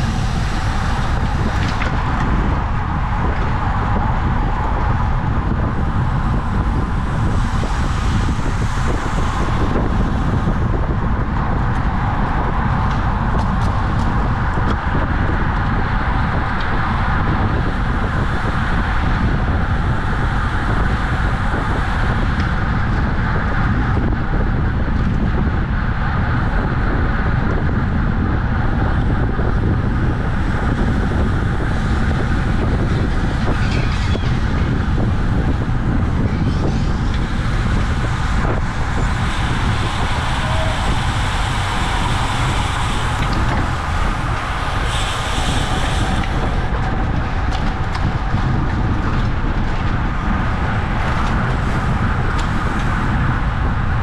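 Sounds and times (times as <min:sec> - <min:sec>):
low rumble and road noise: 0:00.0 - 0:54.0
wind buffeting microphone: 0:00.0 - 0:54.0.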